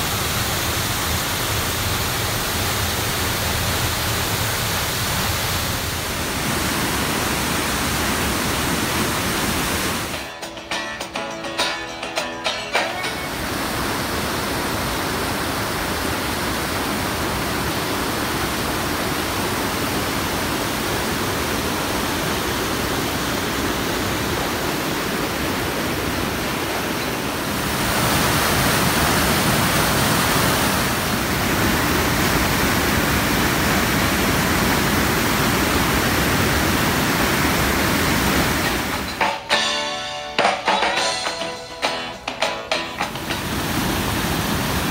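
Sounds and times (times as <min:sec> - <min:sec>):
waterfall roaring: 0:00.0 - 0:10.5, 0:12.5 - 0:44.9.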